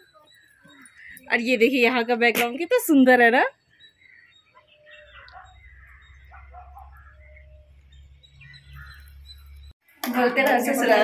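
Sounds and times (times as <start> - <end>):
faint birds chirping: 0.0 - 9.8.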